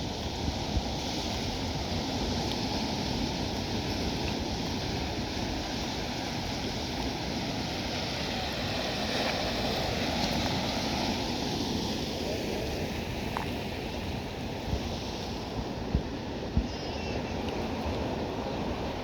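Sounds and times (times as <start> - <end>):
sea water rushing: 0.0 - 19.0
wind: 0.0 - 19.0.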